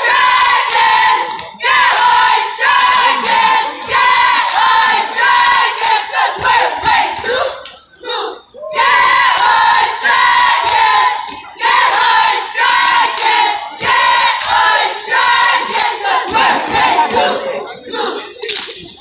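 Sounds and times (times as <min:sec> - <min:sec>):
cheer squad shouting in unison: 0:00.0 - 0:18.4.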